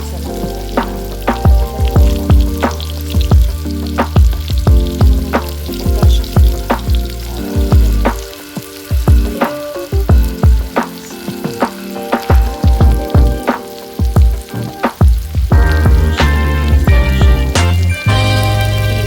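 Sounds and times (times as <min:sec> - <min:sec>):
meat sizzling in a pan: 0:00.0 - 0:19.0
music with thumping beat: 0:00.0 - 0:19.0.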